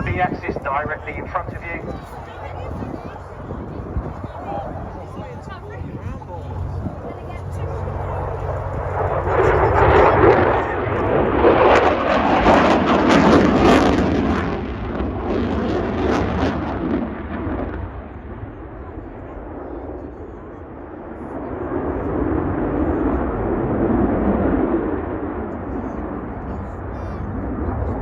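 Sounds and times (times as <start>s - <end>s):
jet roaring past: 0.0s - 28.0s.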